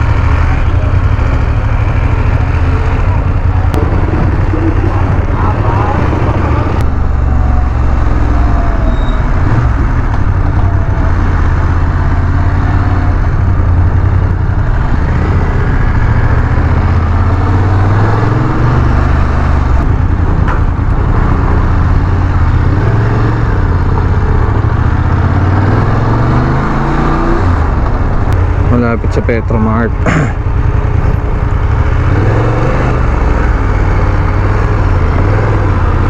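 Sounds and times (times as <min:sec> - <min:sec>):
motorcycle engine drone: 0:00.0 - 0:36.0
road noise: 0:00.0 - 0:36.0.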